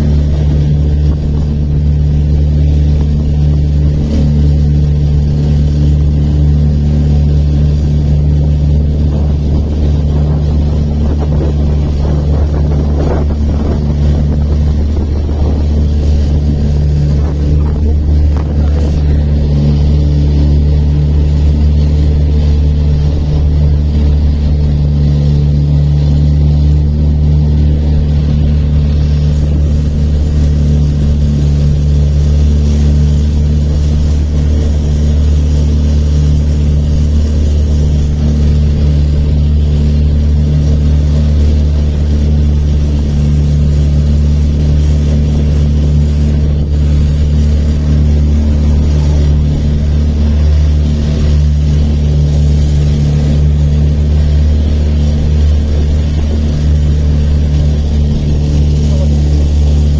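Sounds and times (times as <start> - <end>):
motorboat engine drone: 0.0 - 59.9.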